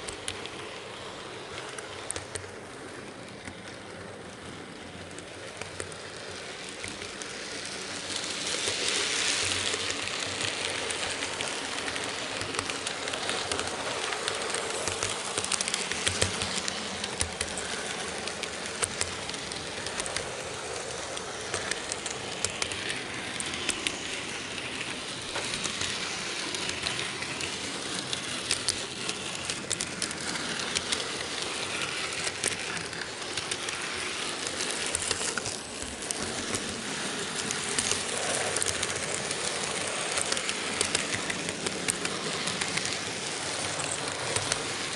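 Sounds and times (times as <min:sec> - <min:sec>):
model train wheels rattling: 0:00.0 - 0:44.9.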